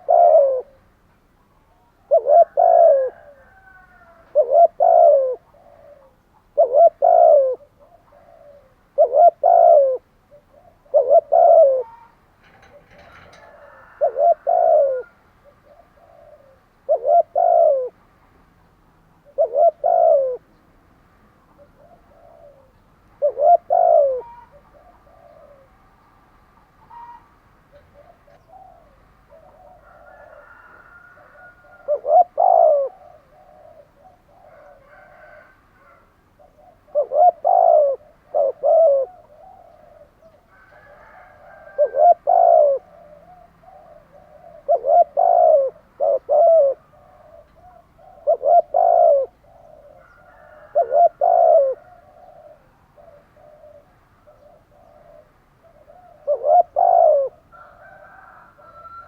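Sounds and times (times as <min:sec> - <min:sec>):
doves cooing: 0:00.0 - 0:00.9, 0:01.7 - 0:18.0, 0:19.2 - 0:20.6, 0:21.5 - 0:26.0, 0:26.8 - 0:59.0.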